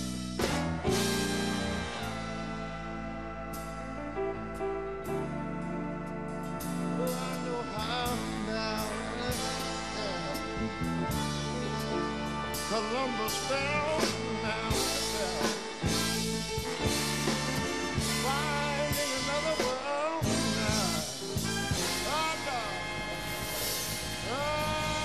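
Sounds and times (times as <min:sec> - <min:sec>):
big band playing jazz ballad: 0:00.0 - 0:25.0.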